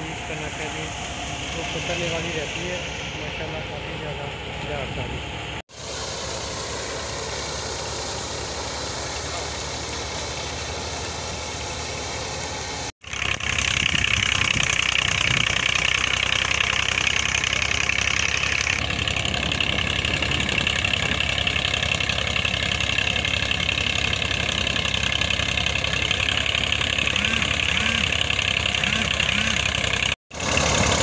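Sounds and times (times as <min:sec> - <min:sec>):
thresher machine drone: 0:00.0 - 0:31.0.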